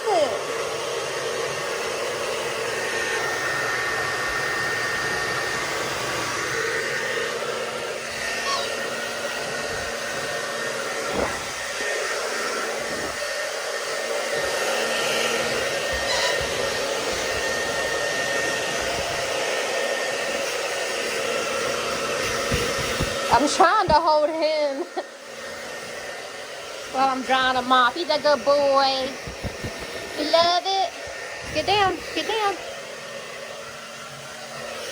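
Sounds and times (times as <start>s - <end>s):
hair dryer blowing: 0.0s - 34.9s.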